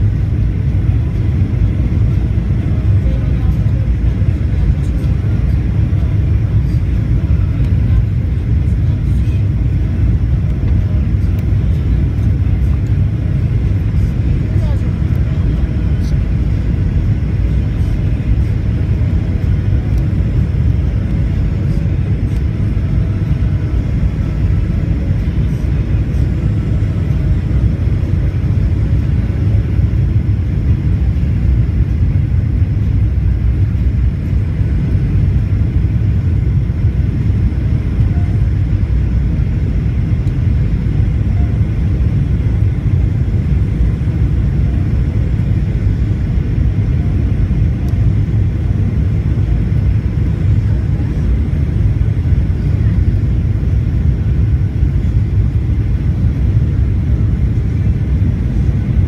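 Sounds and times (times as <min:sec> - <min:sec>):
faint hum: 0:00.0 - 0:59.0
jet engine and airflow rumble: 0:00.0 - 0:59.0.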